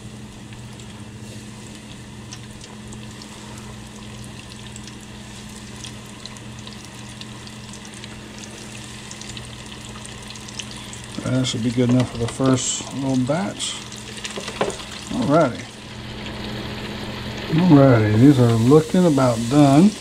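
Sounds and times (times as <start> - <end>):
deep fryer oil sizzling: 0.0 - 20.0
low steady hum: 0.0 - 20.0.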